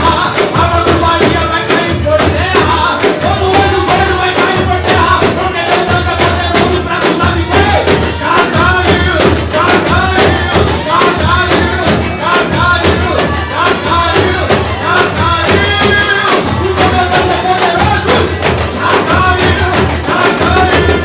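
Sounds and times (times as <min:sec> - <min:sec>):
man singing into microphone: 0:00.0 - 0:21.0
tambourines shaken: 0:00.0 - 0:21.0
worship song through loudspeakers: 0:00.0 - 0:21.0.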